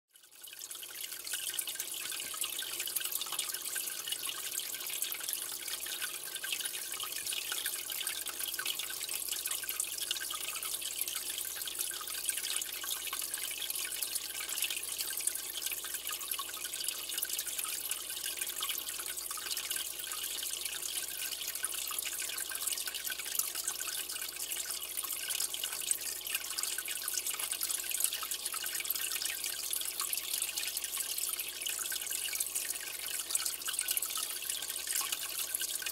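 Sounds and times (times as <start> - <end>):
aquarium water trickling: 0.1 - 35.9.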